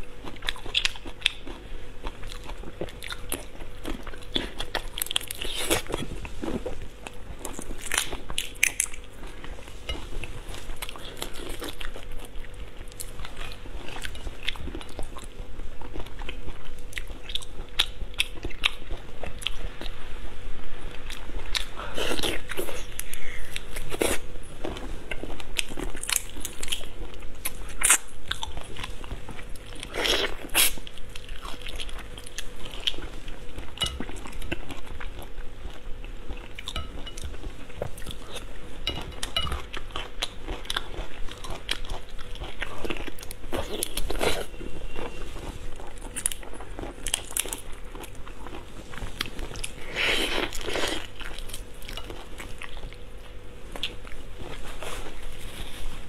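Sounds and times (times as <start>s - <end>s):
chewing and crunching prawns: 0.0s - 19.8s, 21.1s - 55.1s.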